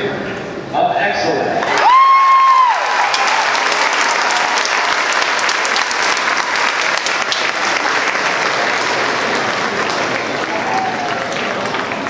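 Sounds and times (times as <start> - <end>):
crowd applauding: 1.6 - 12.0.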